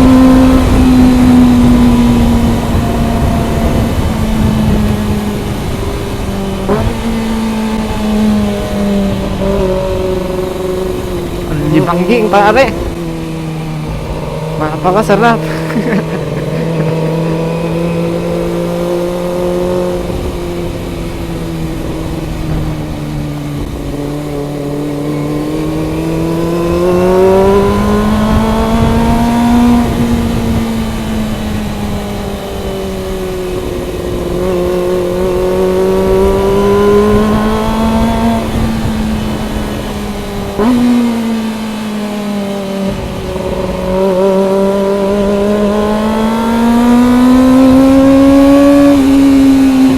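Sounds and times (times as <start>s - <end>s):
gear change: 0.0s - 49.9s
motorcycle engine accelerating: 0.0s - 49.9s
wind rumble: 0.0s - 49.9s.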